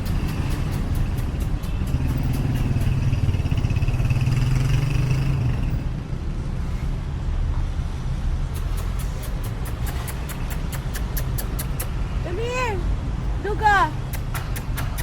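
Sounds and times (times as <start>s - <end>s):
vehicle engine humming and whining: 0.0s - 15.0s.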